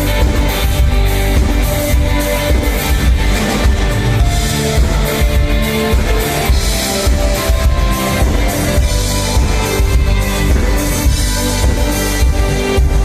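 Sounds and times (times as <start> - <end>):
drum kit steady beat: 0.0 - 13.0
sustained chords: 0.0 - 13.0.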